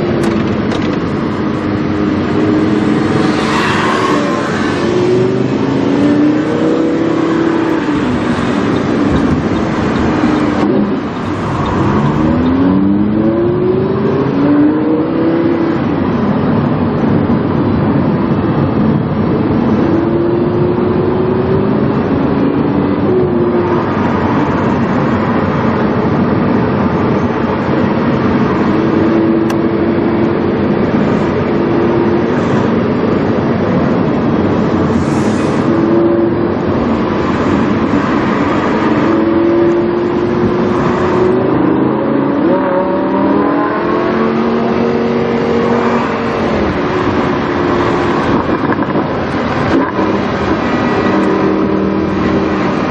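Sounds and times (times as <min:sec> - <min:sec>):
sports car engine revving through gears: 0:00.0 - 0:16.2, 0:25.8 - 0:52.9.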